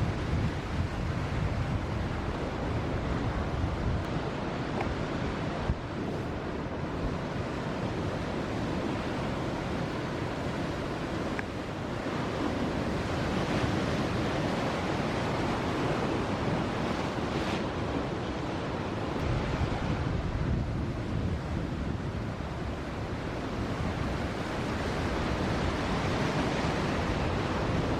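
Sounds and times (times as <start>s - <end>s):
wind buffeting microphone: 0.0s - 18.1s, 19.0s - 27.9s
ocean surf breaking: 0.0s - 27.9s.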